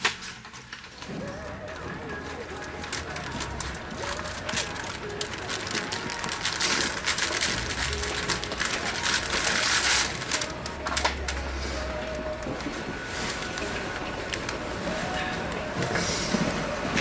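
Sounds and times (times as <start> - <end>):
cellophane rustling and crinkling: 0.0 - 17.0.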